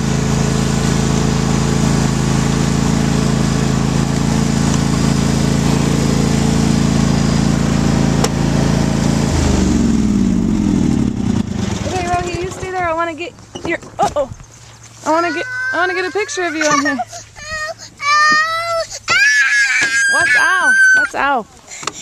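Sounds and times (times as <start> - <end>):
engine running steadily: 0.0 - 19.3, 20.1 - 22.0.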